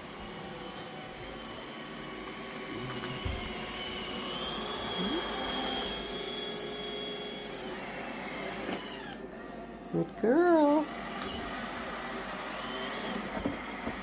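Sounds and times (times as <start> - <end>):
robot vacuum cleaner whirring: 0.0 - 9.8, 10.8 - 14.0.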